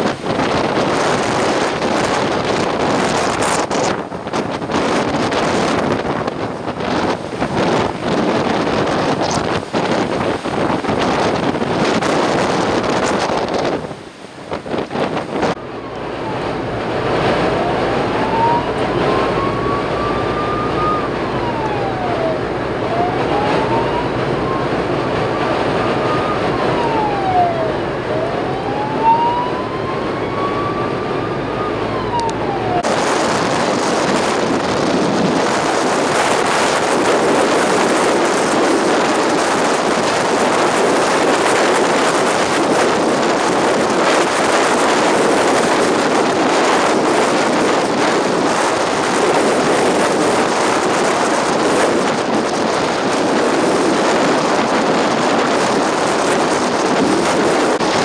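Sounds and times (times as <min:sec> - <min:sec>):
emergency vehicle siren wailing: 0:00.0 - 0:58.0
storm wind buffeting microphone: 0:00.0 - 0:58.0.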